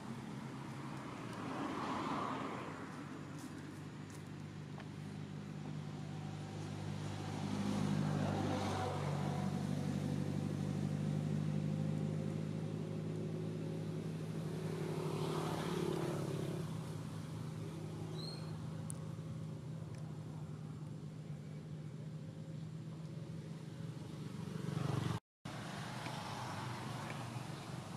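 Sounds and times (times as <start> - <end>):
vehicle engine humming: 0.0 - 27.9.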